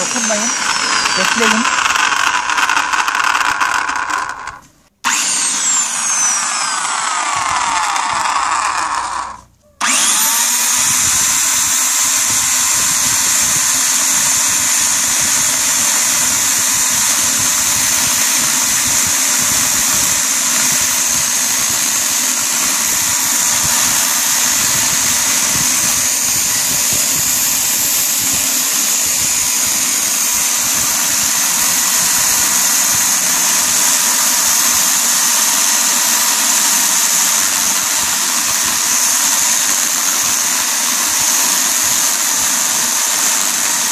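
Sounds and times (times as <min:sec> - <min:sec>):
electric chainsaw cutting log: 0:00.0 - 0:43.9.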